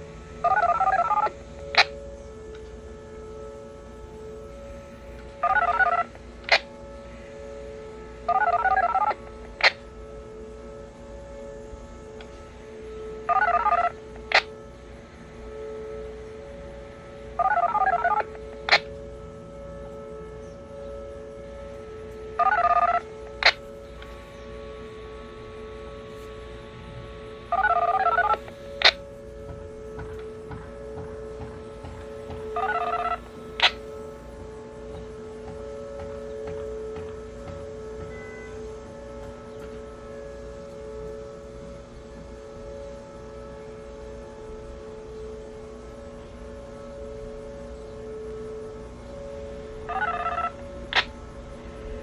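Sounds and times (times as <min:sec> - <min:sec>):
steady two-tone hum: 0:00.0 - 0:52.0.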